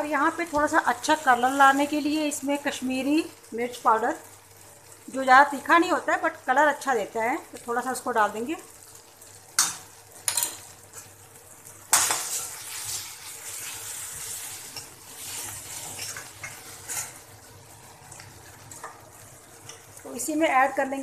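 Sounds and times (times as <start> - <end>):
onions and tomatoes sizzling: 0.0 - 21.0.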